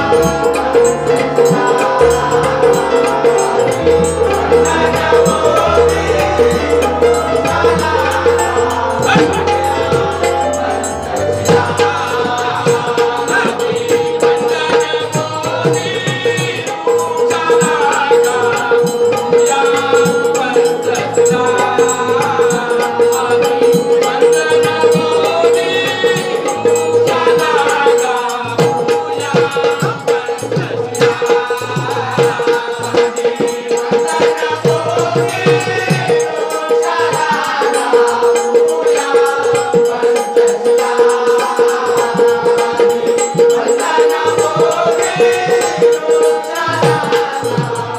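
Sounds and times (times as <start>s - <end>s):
harmonium: 0.0s - 47.9s
people singing: 0.0s - 47.9s
rhythmic hand percussion: 0.0s - 47.9s.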